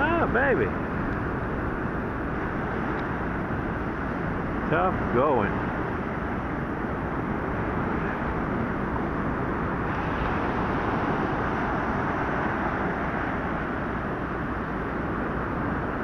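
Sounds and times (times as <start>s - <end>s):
heavy surf breaking: 0.0s - 16.0s.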